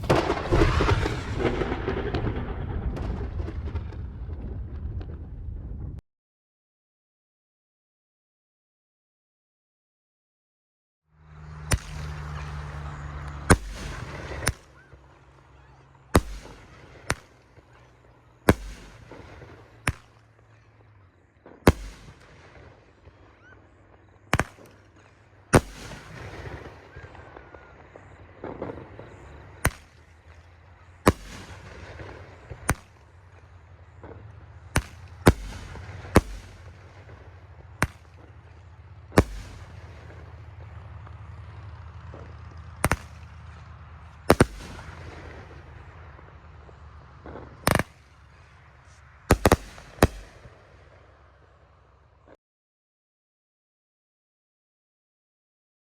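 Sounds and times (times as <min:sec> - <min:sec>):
firework shots and bursts: 0:00.0 - 0:05.8, 0:11.3 - 0:51.7.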